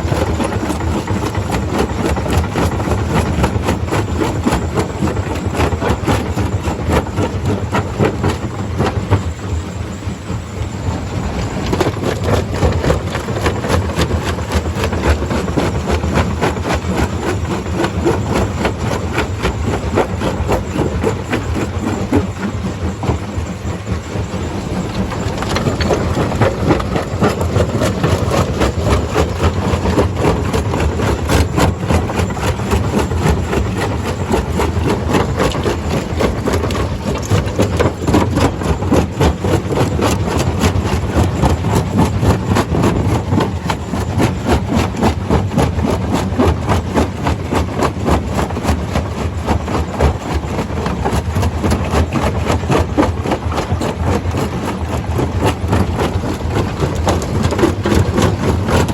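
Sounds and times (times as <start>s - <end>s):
engine drone: 0.0s - 58.9s.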